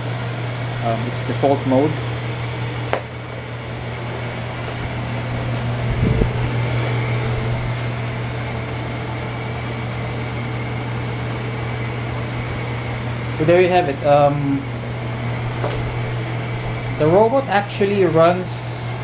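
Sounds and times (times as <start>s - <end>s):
robot vacuum humming: 0.0s - 19.0s.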